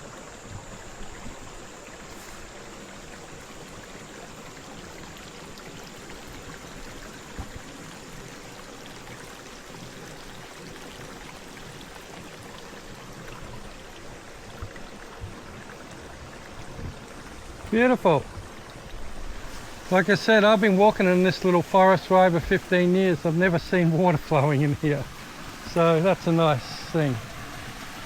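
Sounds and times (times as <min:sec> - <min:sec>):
creek flowing: 0:00.0 - 0:28.0.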